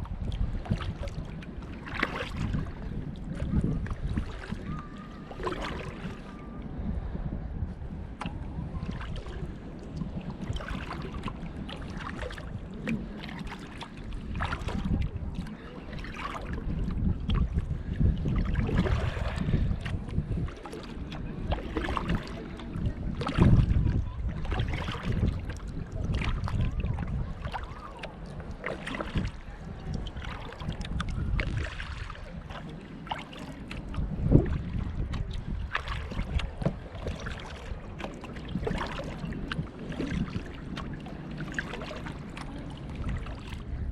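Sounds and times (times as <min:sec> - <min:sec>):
kayak paddle splashing: 0:00.0 - 0:43.9
wind rumbling on microphone: 0:00.0 - 0:43.9.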